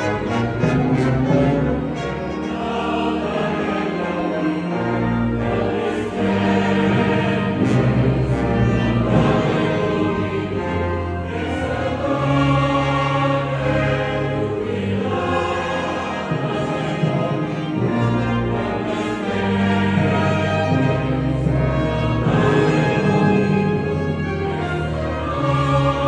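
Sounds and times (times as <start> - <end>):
choir with instrumental accompaniment: 0.0 - 26.0.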